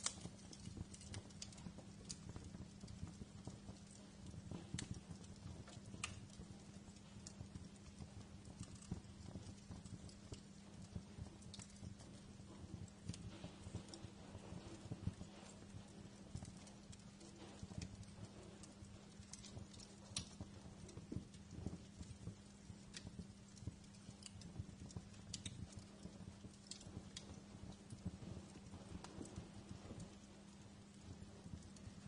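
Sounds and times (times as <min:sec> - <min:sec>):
low steady hum: 0:00.0 - 0:32.0
wood fire crackling: 0:00.0 - 0:32.0.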